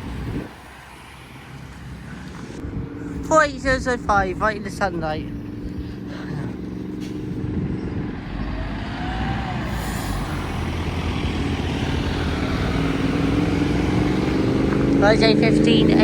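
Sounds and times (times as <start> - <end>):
bus engine running: 0.0 - 16.0.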